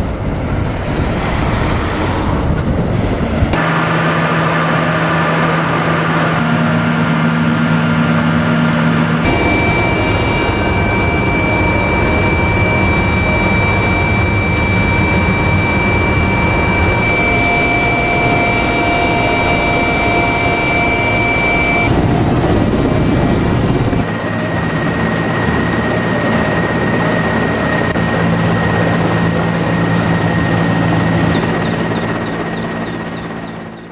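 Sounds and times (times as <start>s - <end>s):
helicopter engines and rotors: 0.0s - 33.9s.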